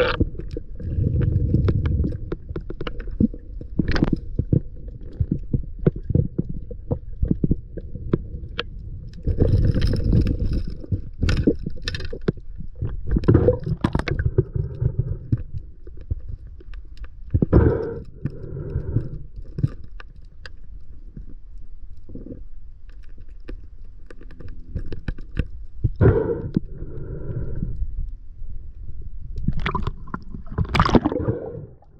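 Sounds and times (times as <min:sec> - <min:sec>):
muffled rumble of underwater water: 0:00.0 - 0:31.9.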